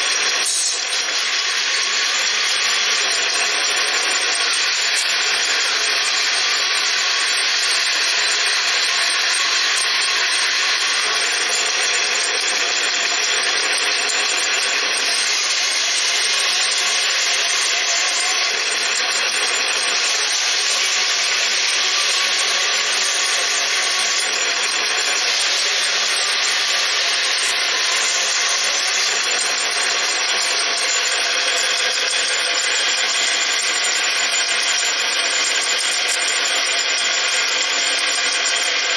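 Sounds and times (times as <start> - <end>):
model band saw whine: 0.0 - 38.9
saw blade cutting wood: 0.0 - 38.9.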